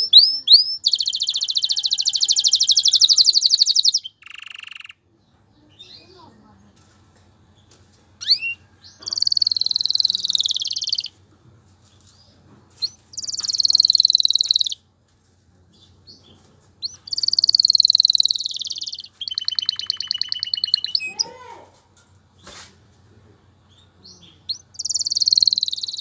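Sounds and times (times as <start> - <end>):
canary singing trills: 0.0 - 6.5, 7.6 - 11.2, 11.9 - 14.9, 15.7 - 21.6, 23.6 - 26.0.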